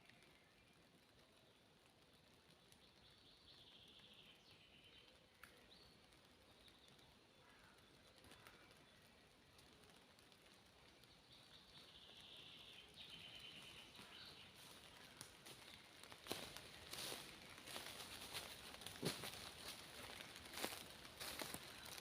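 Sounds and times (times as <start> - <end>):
faint forest ambience: 0.0 - 22.0.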